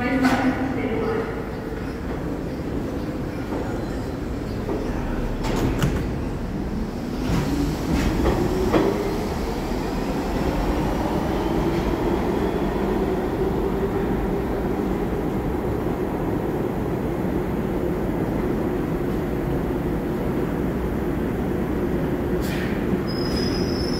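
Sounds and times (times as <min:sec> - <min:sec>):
train rumble: 0:00.0 - 0:23.9.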